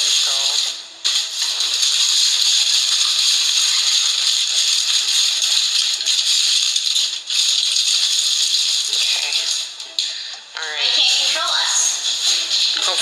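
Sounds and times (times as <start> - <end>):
aluminium foil crinkling: 0.0 - 10.3, 11.1 - 13.0.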